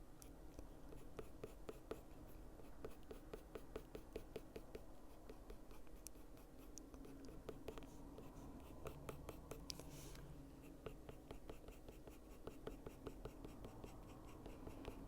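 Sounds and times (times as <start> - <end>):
pencil scratching on paper: 0.8 - 15.0.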